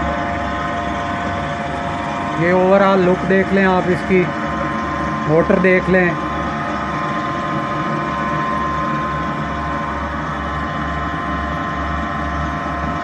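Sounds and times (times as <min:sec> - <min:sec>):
electric motor pump humming and whining: 0:00.0 - 0:13.0
low rhythmic throb: 0:00.0 - 0:13.0.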